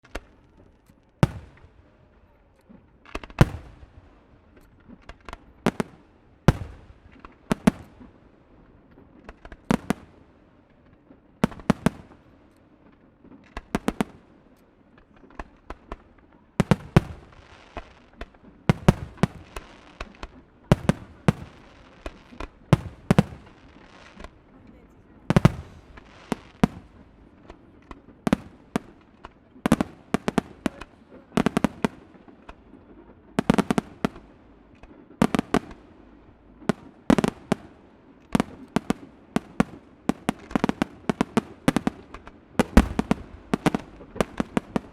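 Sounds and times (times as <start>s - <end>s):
fireworks bursting: 0.0s - 44.9s
fireworks crackle: 0.0s - 44.9s.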